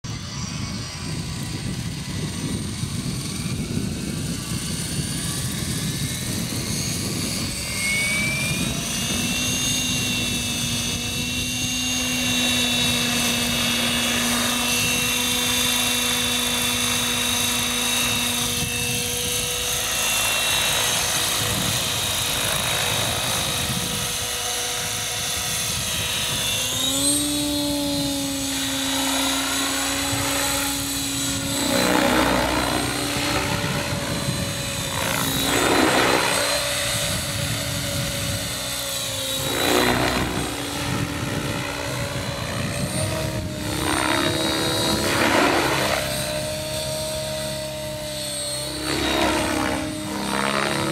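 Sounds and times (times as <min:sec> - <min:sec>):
rc helicopter motor whine: 0:00.0 - 0:50.9.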